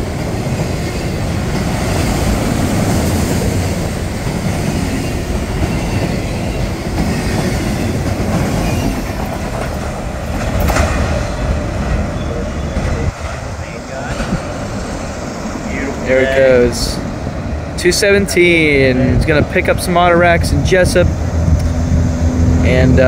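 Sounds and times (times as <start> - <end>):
freight cars rolling past: 0.0 - 23.0.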